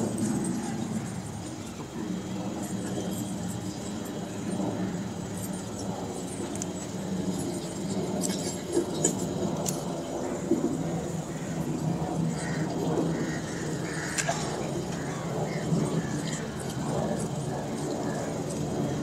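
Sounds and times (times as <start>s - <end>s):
crowd murmur: 0.0s - 19.0s
steady low hum: 0.0s - 19.0s.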